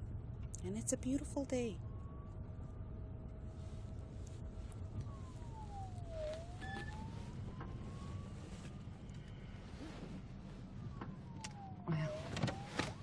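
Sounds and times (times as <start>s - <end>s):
siren wailing: 0.8s - 13.0s.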